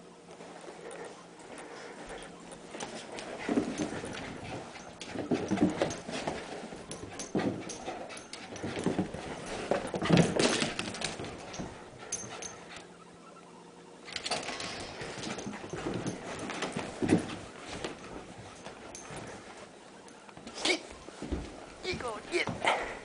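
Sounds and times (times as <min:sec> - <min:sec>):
dog paws clicking on wooden floors: 0:00.3 - 0:12.9, 0:14.0 - 0:22.9.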